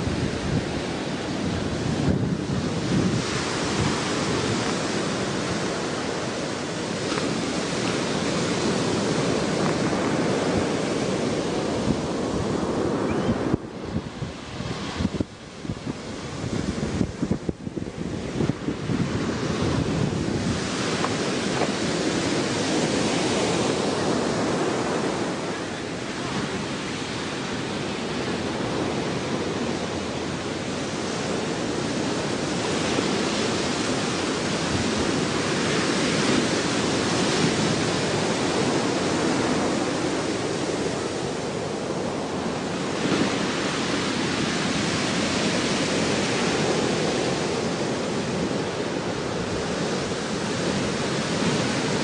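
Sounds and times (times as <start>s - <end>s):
ocean surf rushing: 0.0s - 52.0s
wind buffeting microphone: 0.0s - 52.0s.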